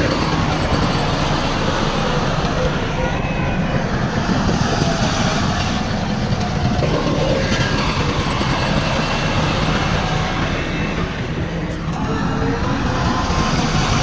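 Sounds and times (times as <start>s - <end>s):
diesel earthmoving machinery rumbling: 0.0s - 14.0s.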